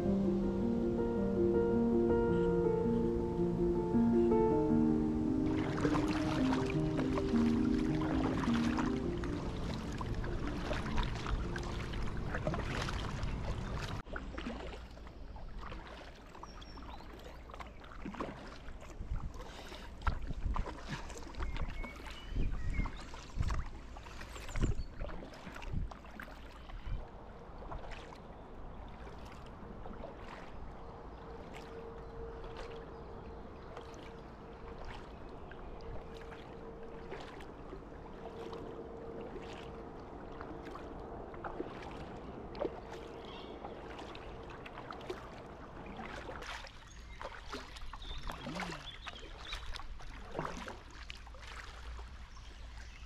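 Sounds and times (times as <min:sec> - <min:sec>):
paddle splashing in water: 0:03.9 - 0:53.0.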